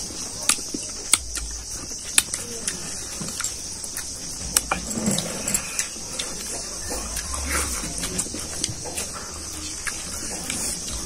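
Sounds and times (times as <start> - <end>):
chewing and lip-smacking: 0.0 - 11.0
steady high hiss: 0.0 - 11.0.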